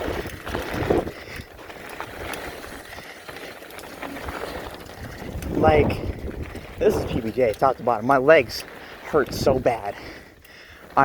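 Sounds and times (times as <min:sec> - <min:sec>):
bike clicks and knocks: 0:00.0 - 0:11.0
bike tyres rolling on dirt: 0:00.0 - 0:11.0.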